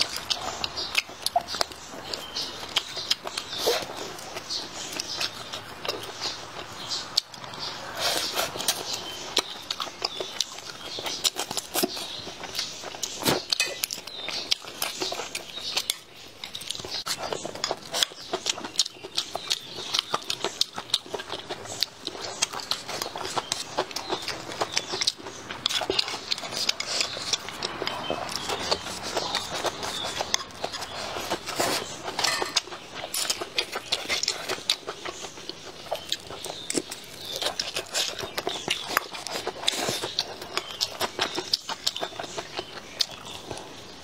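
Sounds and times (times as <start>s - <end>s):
chewing chicken: 0.0s - 44.0s.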